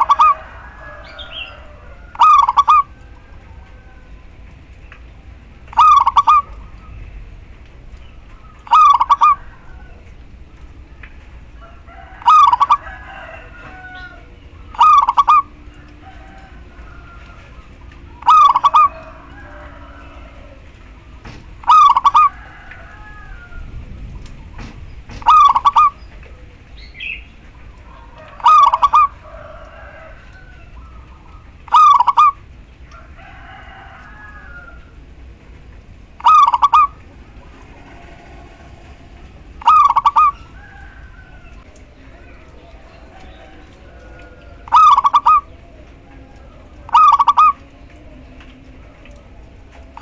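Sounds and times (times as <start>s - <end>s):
dove calling: 0.0s - 50.0s.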